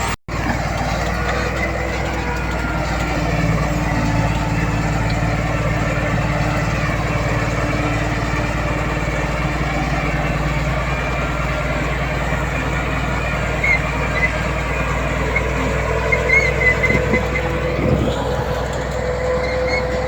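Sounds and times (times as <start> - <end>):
heavy machinery engine hum: 0.0 - 20.0.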